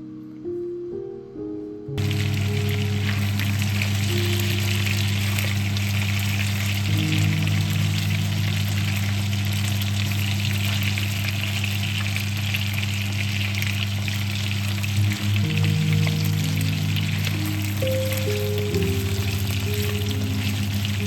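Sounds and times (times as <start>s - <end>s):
background music with low notes: 0.0s - 13.0s, 13.6s - 21.0s
food sizzling in a pan: 2.0s - 21.0s.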